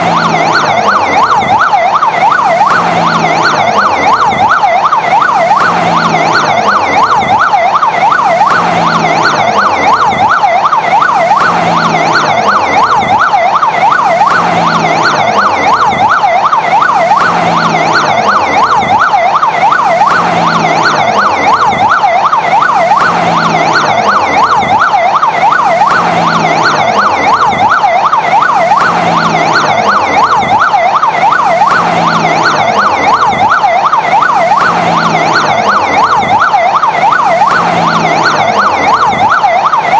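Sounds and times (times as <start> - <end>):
fire engine siren yelping: 0.0 - 39.9.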